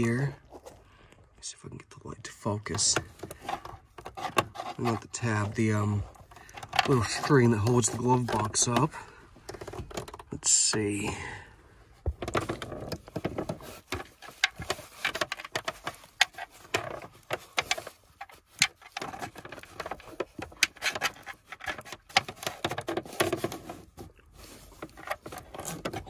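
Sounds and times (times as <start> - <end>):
gloved hand fumbling on plastic: 2.7 - 26.0.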